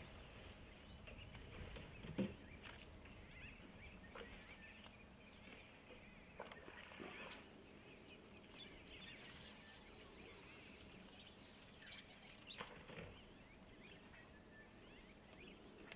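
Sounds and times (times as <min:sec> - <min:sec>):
soft bird chirps: 0:00.0 - 0:15.9.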